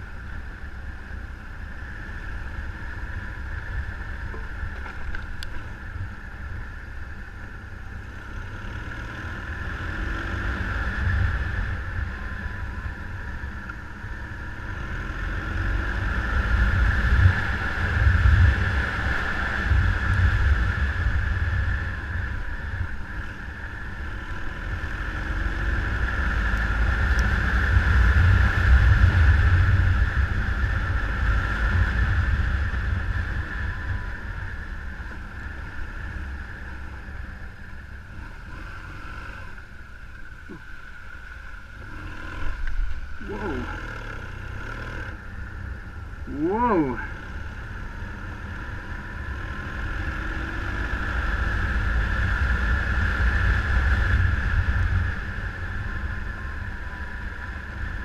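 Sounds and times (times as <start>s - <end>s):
engine and road noise hiss: 0.0s - 58.0s
wind rumbling on microphone: 0.0s - 58.0s.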